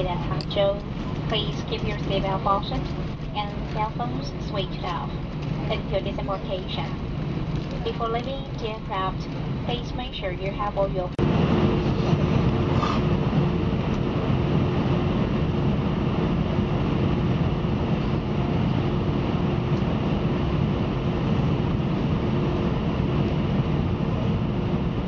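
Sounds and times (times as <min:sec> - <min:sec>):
airliner engines rumbling: 0:00.0 - 0:25.0
faint steady hums: 0:00.0 - 0:25.0.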